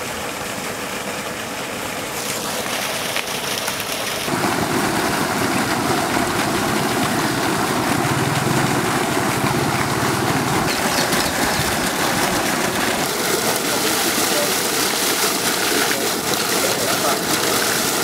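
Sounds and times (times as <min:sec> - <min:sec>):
water gushing from pipe: 0:00.0 - 0:18.0
water pump running: 0:00.0 - 0:18.0.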